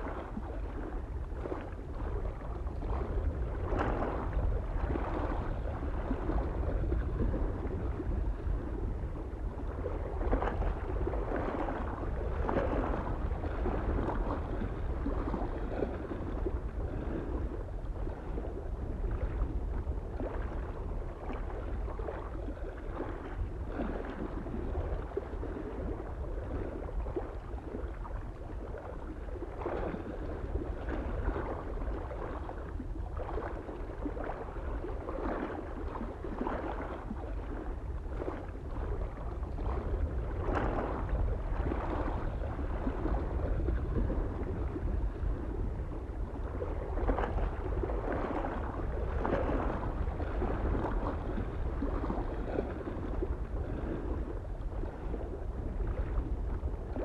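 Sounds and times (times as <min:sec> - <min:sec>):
small waves lapping on shore: 0:00.0 - 0:57.0
soft wind rumble: 0:00.0 - 0:57.0.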